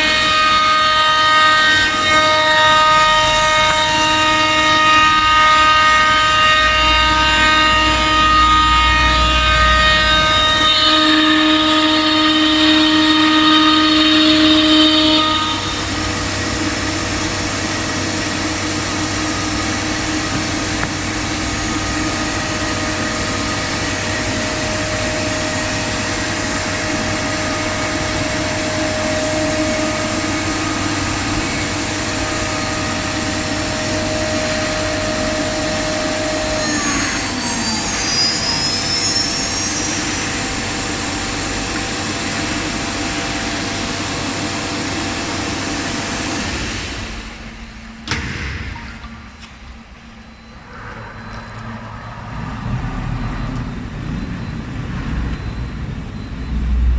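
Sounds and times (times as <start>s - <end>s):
high whining tones gliding: 0.0s - 56.9s
low hum: 0.0s - 56.9s
router machine whine: 0.0s - 56.9s.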